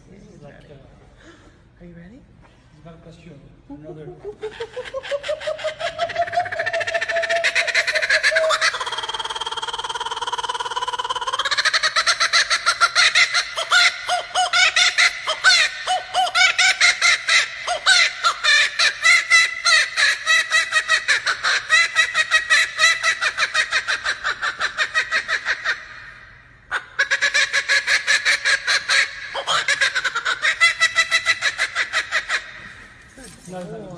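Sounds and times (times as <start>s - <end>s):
kookaburra cackling: 4.2s - 33.0s.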